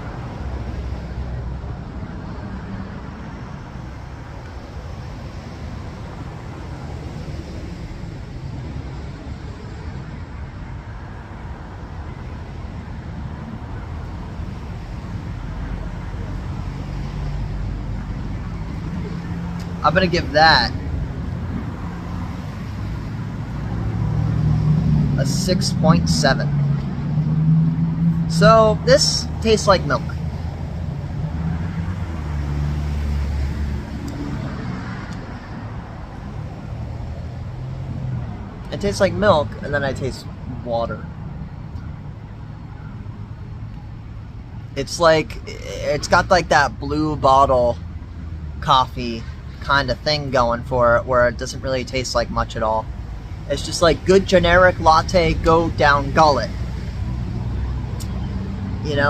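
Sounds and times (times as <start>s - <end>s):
traffic rumble: 0.0s - 59.0s
vehicle engine low hum: 0.0s - 59.0s.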